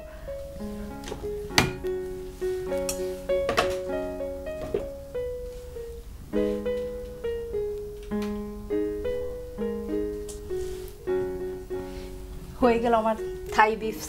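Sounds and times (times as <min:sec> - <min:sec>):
keyboard playing slow chords: 0:00.0 - 0:14.0.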